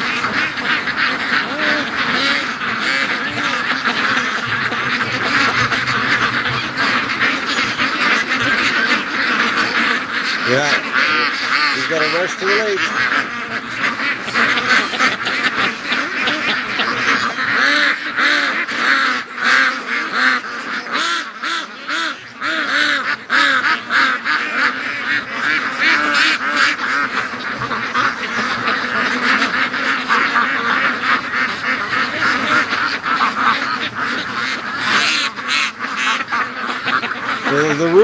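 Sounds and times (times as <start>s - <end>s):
ducks quacking: 0.0s - 38.0s.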